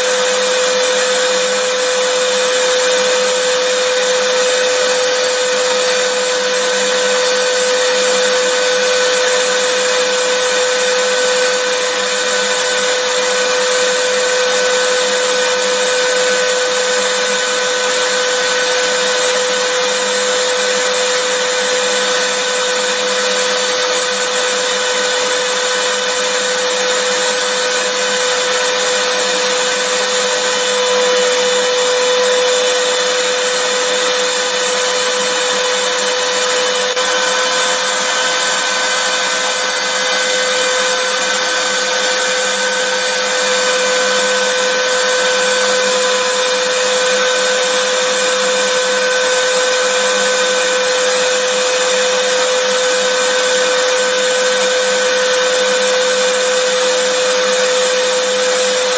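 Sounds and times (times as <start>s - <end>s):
vacuum cleaner motor running: 0.0s - 58.9s.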